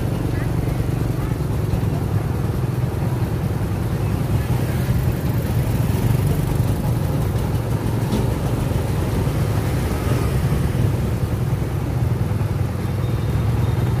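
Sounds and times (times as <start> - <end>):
engines running in traffic: 0.0 - 14.0.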